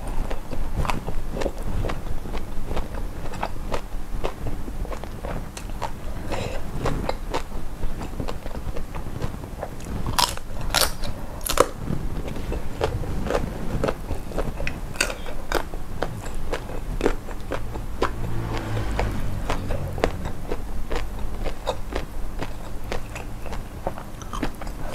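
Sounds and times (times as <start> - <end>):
chewing and crunching prawns: 0.0 - 24.9.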